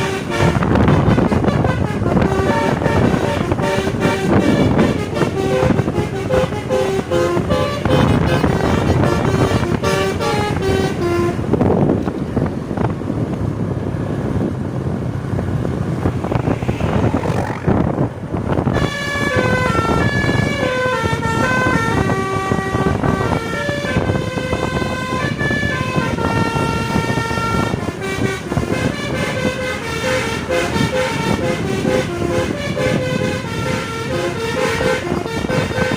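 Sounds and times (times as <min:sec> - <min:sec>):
bus air horn melody: 0:00.0 - 0:11.6, 0:18.6 - 0:35.9.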